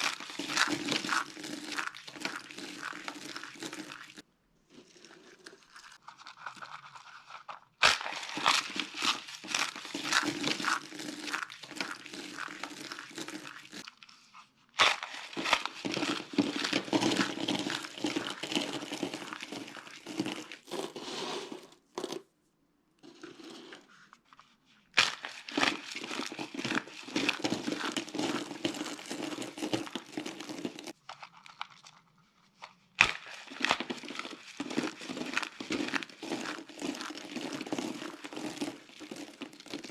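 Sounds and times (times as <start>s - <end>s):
dry soap crunching: 0.0s - 22.4s, 23.0s - 39.9s.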